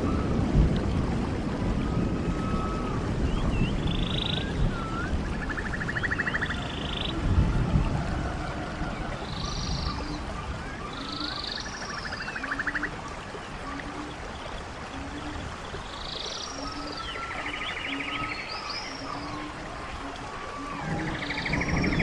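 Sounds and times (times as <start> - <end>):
stream water rushing: 0.0 - 22.0
birds whistling and trilling: 1.8 - 7.7, 8.4 - 22.0.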